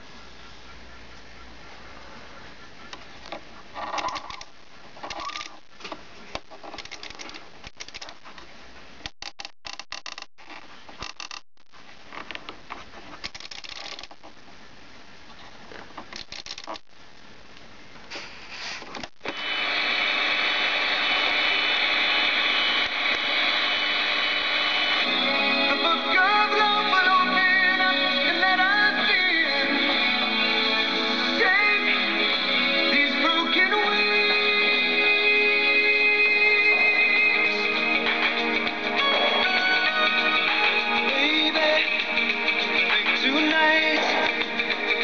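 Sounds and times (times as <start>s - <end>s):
radio hiss: 1.4s - 12.2s, 12.8s - 45.0s.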